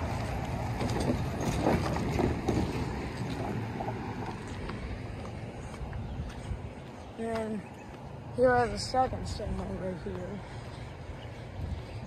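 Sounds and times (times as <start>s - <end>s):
footsteps on gravel: 0.0s - 12.0s
wind rumbling on microphone: 0.0s - 12.0s.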